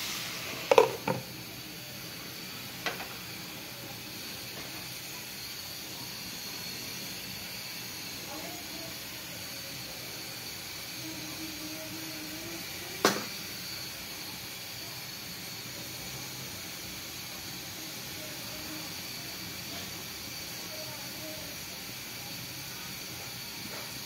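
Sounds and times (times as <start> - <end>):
steam hissing from covered pan: 0.0 - 24.0.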